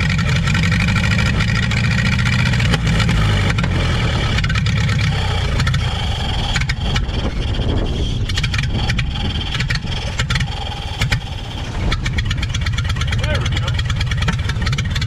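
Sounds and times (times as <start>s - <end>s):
old truck engine running: 0.0s - 15.0s.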